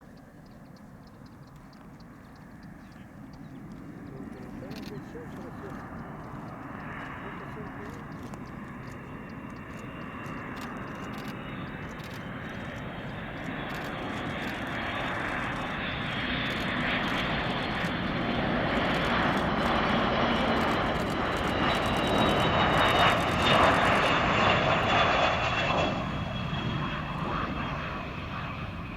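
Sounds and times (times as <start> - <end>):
high engine whine: 0.0 - 28.9
jet aircraft landing: 0.1 - 28.9.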